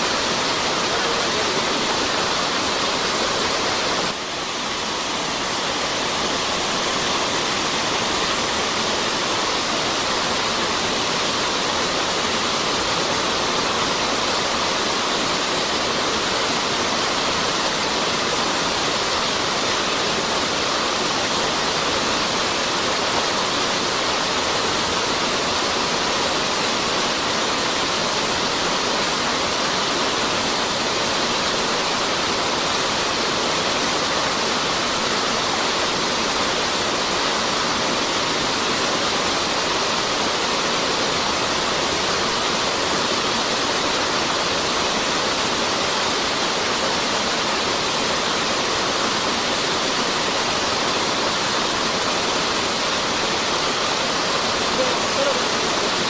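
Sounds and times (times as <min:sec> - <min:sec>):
steady rushing hiss: 0:00.0 - 0:56.0.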